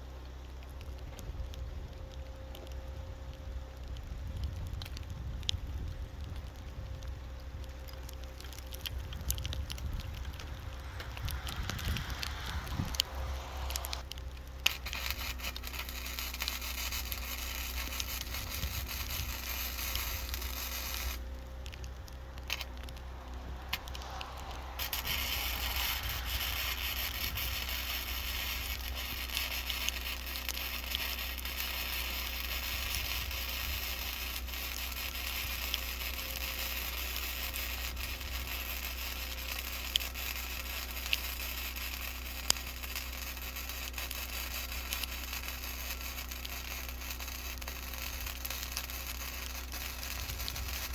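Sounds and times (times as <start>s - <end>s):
welder arc crackling: 0.0s - 50.9s.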